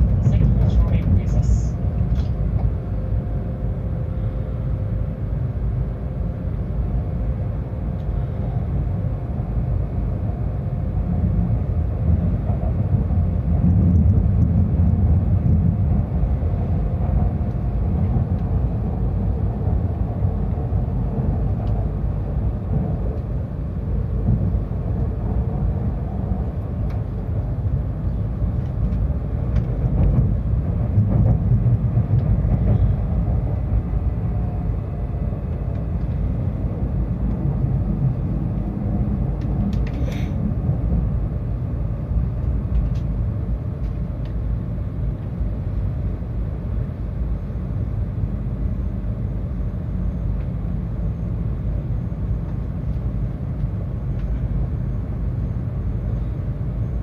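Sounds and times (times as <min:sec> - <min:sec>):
faint whine: 0:00.0 - 0:57.0
train low rumble: 0:00.0 - 0:57.0.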